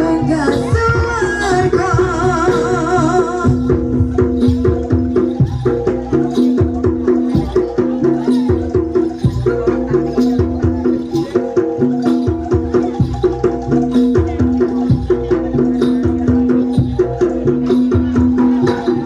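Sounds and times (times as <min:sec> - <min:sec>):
drum strokes: 0:00.0 - 0:19.0
pitched percussion pattern: 0:00.0 - 0:19.0.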